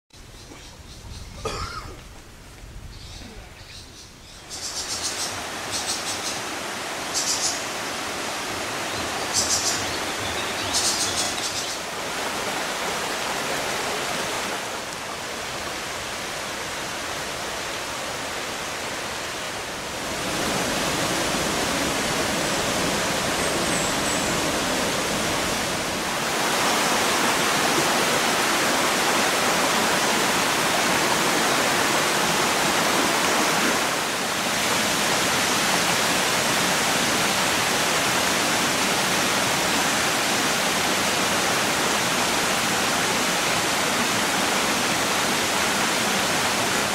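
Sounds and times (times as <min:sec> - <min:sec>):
stream water rushing over rocks: 0:04.4 - 0:46.9.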